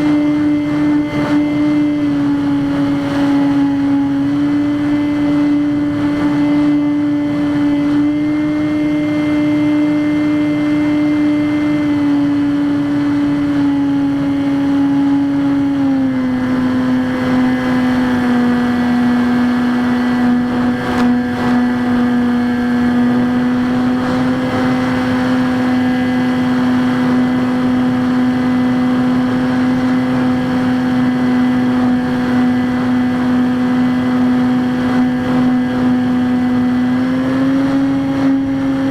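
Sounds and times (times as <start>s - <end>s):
electric motor and propeller: 0.0s - 38.9s.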